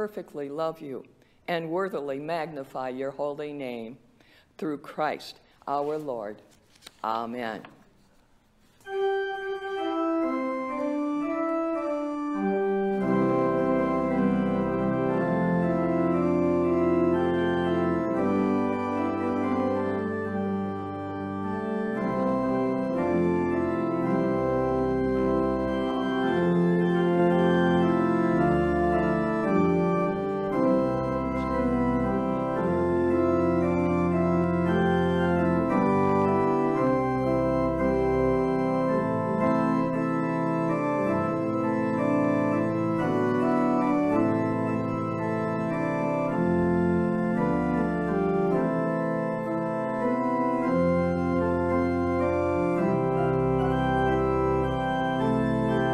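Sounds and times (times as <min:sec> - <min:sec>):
church pipe organ playing: 0:08.8 - 0:55.9.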